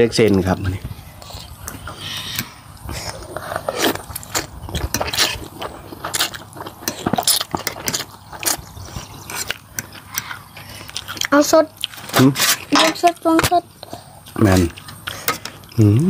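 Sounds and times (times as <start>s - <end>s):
noodles slurped and chewed: 0.7s - 16.0s.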